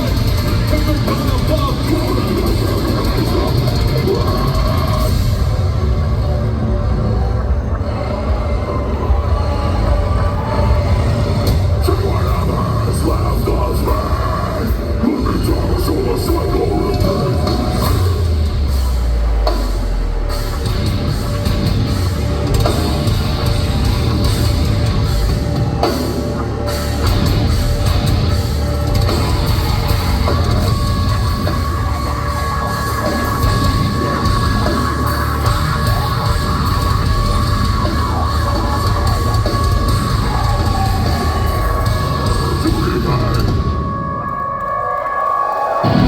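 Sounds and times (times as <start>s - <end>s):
heavy metal band playing live: 0.0s - 46.0s.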